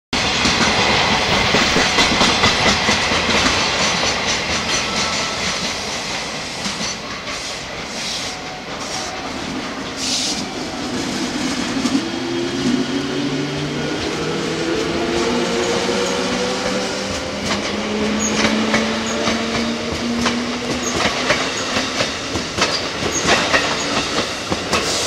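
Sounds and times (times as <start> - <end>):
train wheels clattering over joints: 0.2 - 10.4, 14.8 - 25.0.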